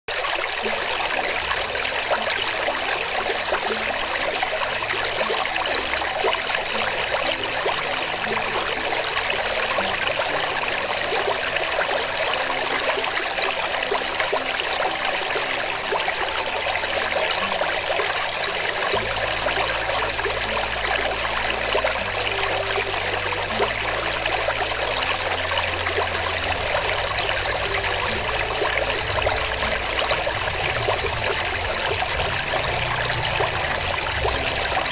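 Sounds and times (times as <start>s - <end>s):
running water: 0.1s - 34.9s.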